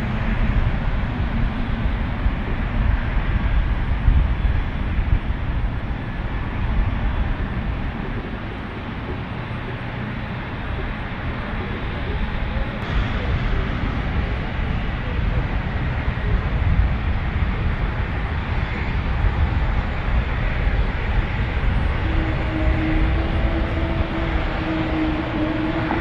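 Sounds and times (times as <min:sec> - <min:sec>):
airliner engine rumble: 0:00.0 - 0:26.0.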